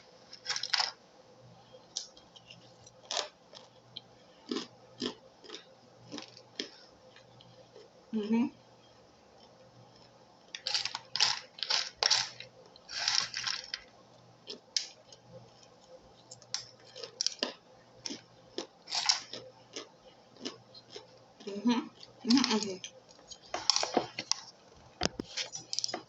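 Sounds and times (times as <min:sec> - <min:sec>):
crunchy food being chewed: 0:01.9 - 0:08.0, 0:09.3 - 0:26.0.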